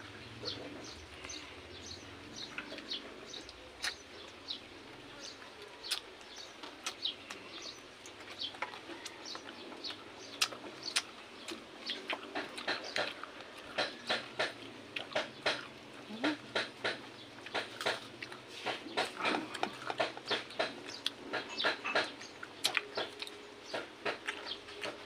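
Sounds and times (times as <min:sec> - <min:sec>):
chewing smacks and clicks: 0:00.5 - 0:04.6, 0:05.6 - 0:25.0.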